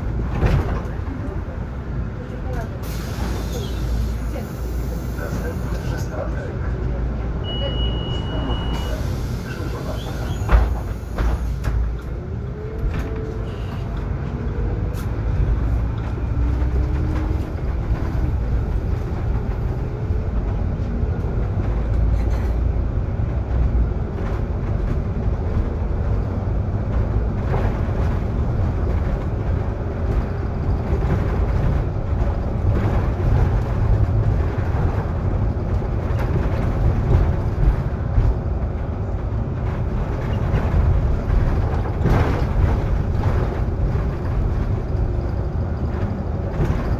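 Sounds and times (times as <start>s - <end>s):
bus interior rumble: 0.0s - 46.9s.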